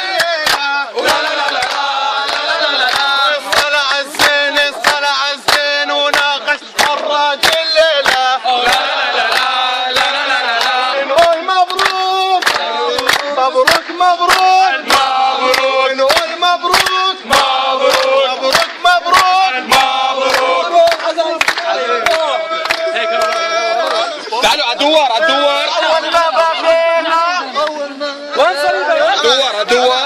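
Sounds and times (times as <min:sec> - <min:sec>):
hands clapping in a steady beat: 0:00.0 - 0:24.7, 0:27.6 - 0:27.8
men singing and chanting: 0:00.0 - 0:30.0.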